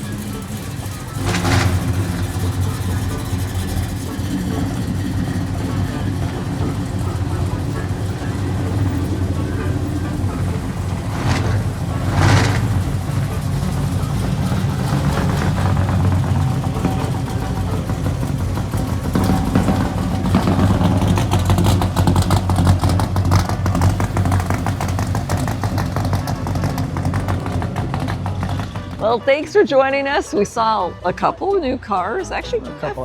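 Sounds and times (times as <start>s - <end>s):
exhaust pulses: 0.0s - 31.6s
car engine rumbling: 0.0s - 33.0s.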